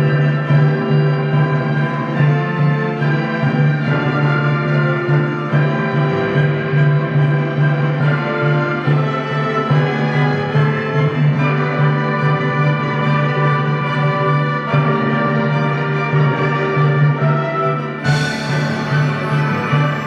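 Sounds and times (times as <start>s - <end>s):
orchestra playing sustained chords: 0.0s - 20.0s.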